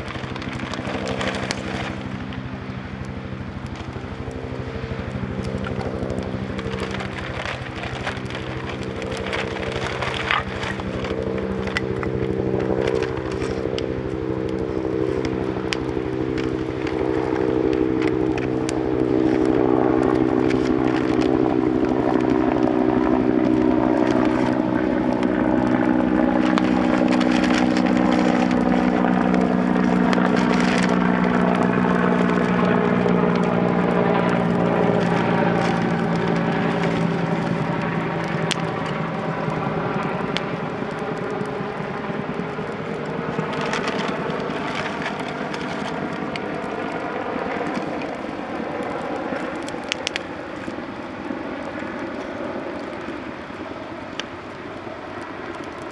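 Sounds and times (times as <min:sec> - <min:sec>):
campfire crackling and popping: 0:00.0 - 0:55.9
engine drone: 0:00.0 - 0:55.9.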